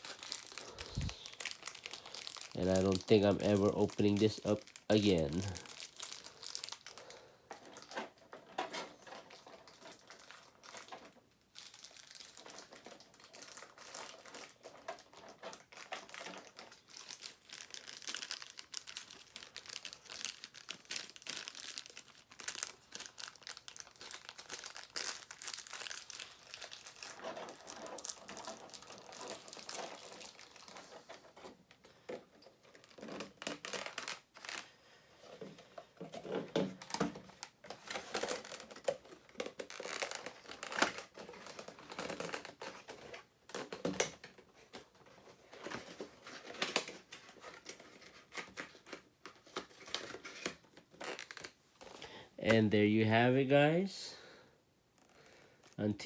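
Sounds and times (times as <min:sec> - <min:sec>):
packing wrap crinkling: 0:00.0 - 0:52.7, 0:55.0 - 0:55.8.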